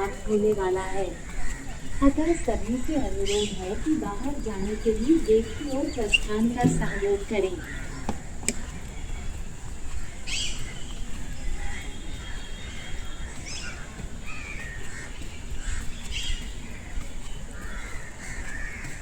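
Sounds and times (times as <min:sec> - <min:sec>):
crows cawing: 0:00.0 - 0:19.0.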